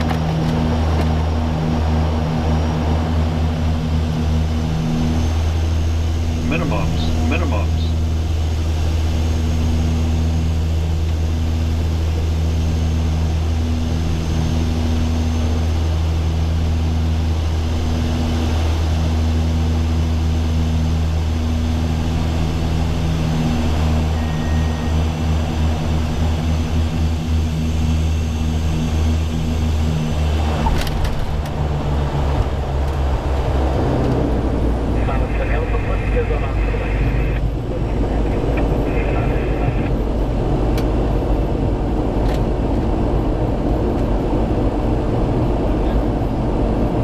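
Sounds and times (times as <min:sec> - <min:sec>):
aircraft touchdown rumble: 0:00.0 - 0:47.0
propeller drone: 0:00.0 - 0:47.0.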